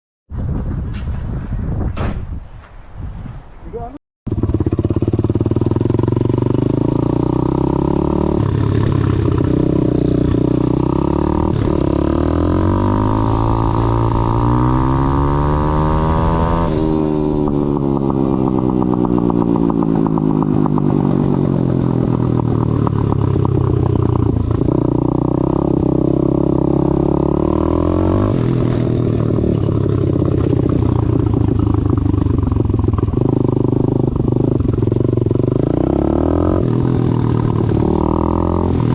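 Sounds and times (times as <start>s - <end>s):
motorbike engine revving: 4.3s - 38.9s.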